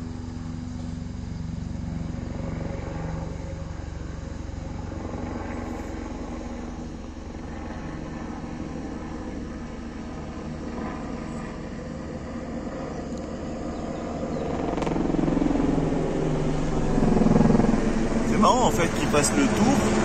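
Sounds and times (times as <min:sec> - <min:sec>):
helicopter engine hum: 0:00.0 - 0:20.0
helicopter rotor chopping: 0:00.0 - 0:20.0.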